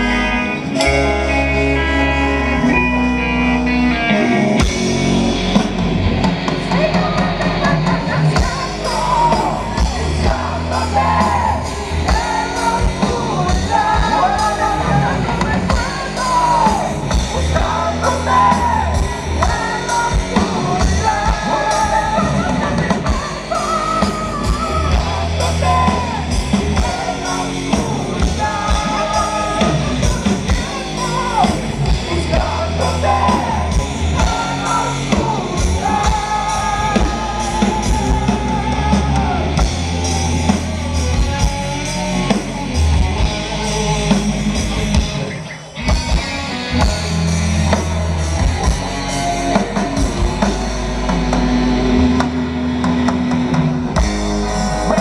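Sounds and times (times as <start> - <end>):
bass guitar: 0.0 - 55.0
distorted electric guitars: 0.0 - 55.0
wavering lead vocal: 0.0 - 55.0
pounding drum kit: 4.5 - 55.0.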